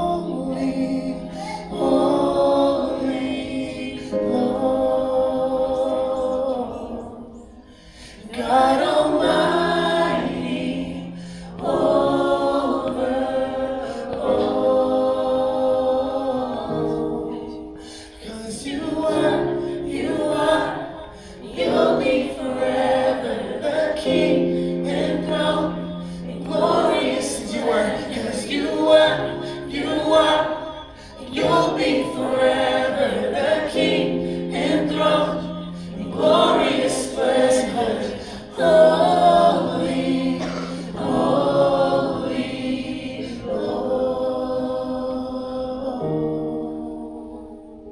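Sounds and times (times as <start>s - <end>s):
congregation singing: 0.0s - 47.9s.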